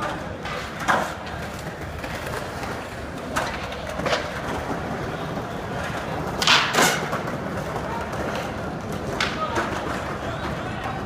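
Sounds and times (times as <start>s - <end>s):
city noise: 0.0s - 11.0s
murmur of people: 0.0s - 11.0s
skateboard clacks: 0.0s - 11.0s.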